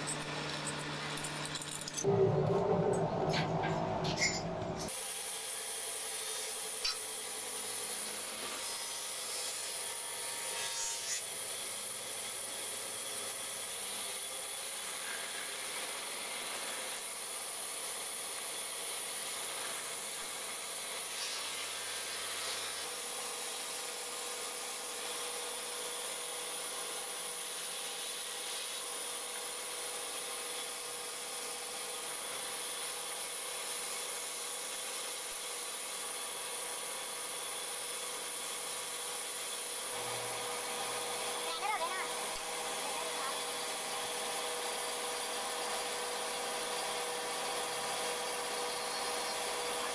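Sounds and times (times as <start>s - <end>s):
band saw cutting wood: 2.9s - 49.9s.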